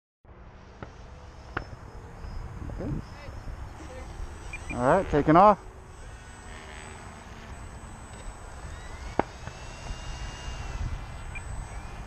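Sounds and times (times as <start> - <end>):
electric motor and propeller whining: 0.3 - 12.0.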